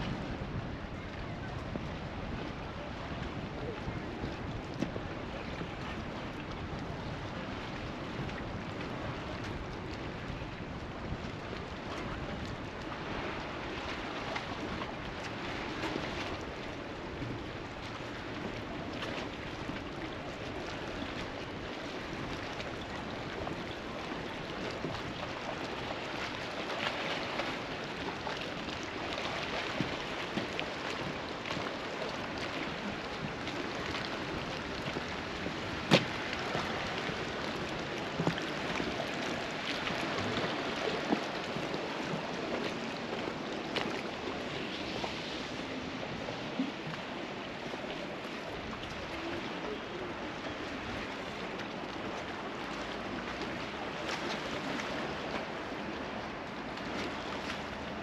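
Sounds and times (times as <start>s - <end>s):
small waves lapping: 0.0s - 58.0s.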